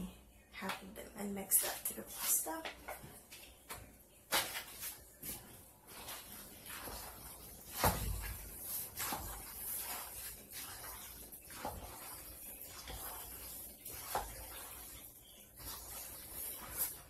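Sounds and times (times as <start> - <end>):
spatula stirring pasta: 1.5 - 17.0.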